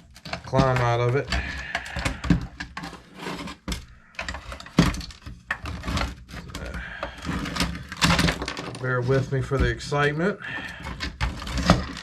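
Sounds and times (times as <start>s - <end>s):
plastic clock parts handled: 0.0s - 12.0s.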